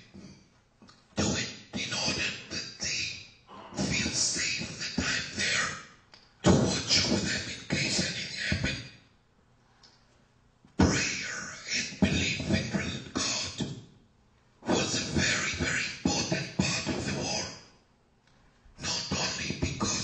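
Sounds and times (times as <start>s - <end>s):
person speaking: 0.0s - 8.8s, 10.8s - 13.7s, 14.6s - 17.8s, 18.8s - 20.0s.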